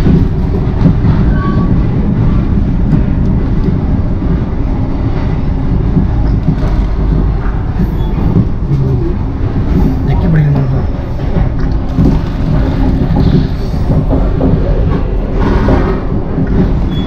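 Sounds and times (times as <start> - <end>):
train rumbling and rattling: 0.0 - 17.0.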